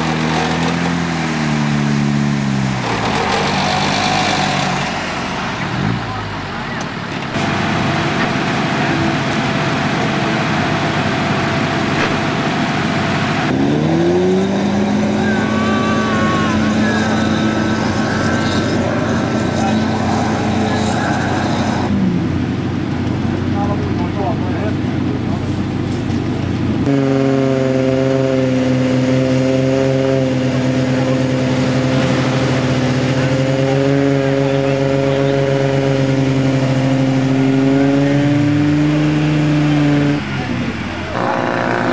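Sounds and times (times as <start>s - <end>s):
engine revving: 0.0s - 25.4s, 26.2s - 41.9s
off-road engine running hard: 0.0s - 41.9s.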